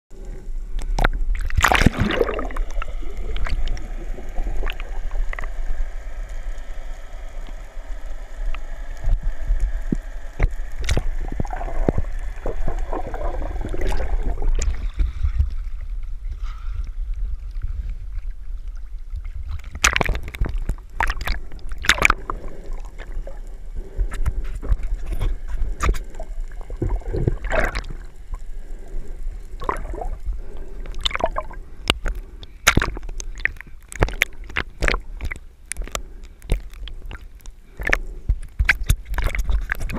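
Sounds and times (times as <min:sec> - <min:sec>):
underwater rumble of moving water: 0:00.1 - 0:39.9
water bubbling and splashing: 0:00.8 - 0:39.9.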